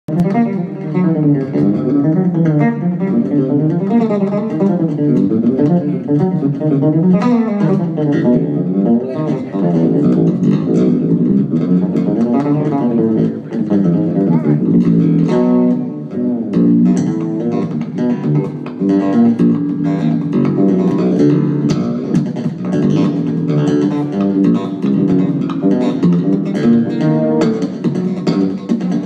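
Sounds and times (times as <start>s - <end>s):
electric bass plucked runs: 0.0s - 29.0s.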